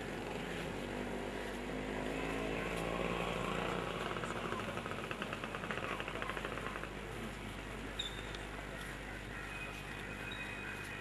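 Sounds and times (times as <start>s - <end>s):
murmur of large crowd: 0.0s - 11.0s.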